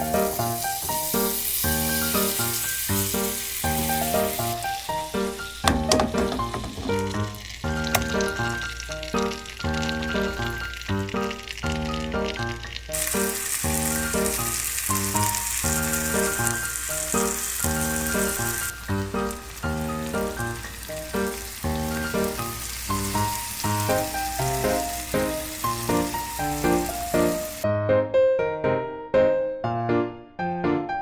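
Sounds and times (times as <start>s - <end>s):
fish sizzling in a pan: 0.0s - 27.6s.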